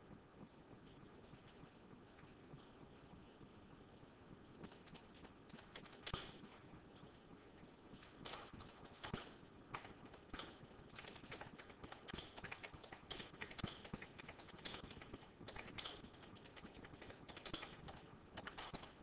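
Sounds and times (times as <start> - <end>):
faint clicks and taps: 0.0 - 19.0.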